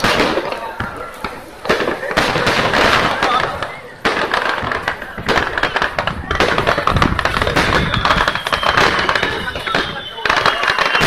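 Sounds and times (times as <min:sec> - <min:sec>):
fireworks crackling and banging: 0:00.0 - 0:11.0
heavy firework boom: 0:00.0 - 0:11.0.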